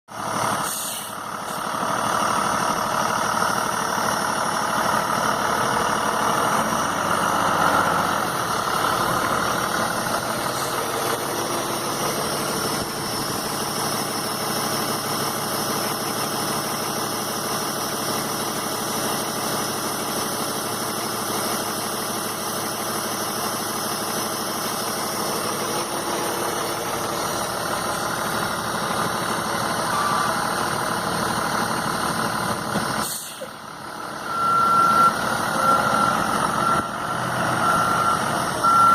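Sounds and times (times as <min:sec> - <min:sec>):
diesel truck engine idling: 0:00.1 - 0:38.9.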